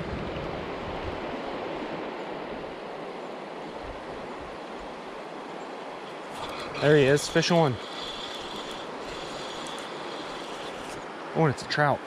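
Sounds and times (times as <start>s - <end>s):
creek water flowing: 0.4s - 12.0s.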